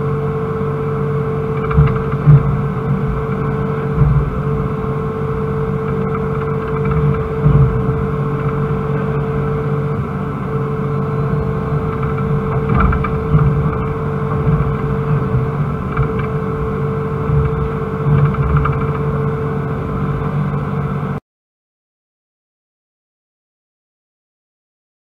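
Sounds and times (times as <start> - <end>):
excavator diesel engine running: 0.0 - 21.2
hydraulic whine: 0.0 - 21.2.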